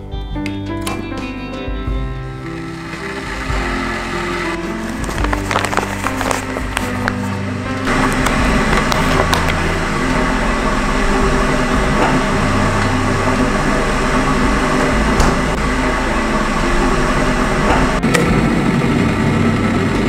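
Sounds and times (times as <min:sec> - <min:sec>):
electric kettle rumbling: 0:02.4 - 0:20.0.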